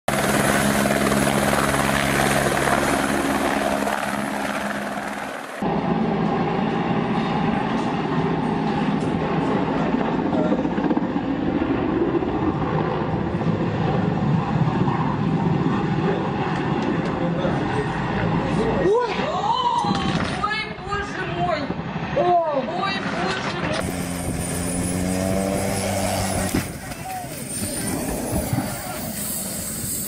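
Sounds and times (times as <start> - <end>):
light helicopter pulsing rotor: 0.1 - 18.8, 20.8 - 30.0
large helicopter flying low: 0.1 - 30.0.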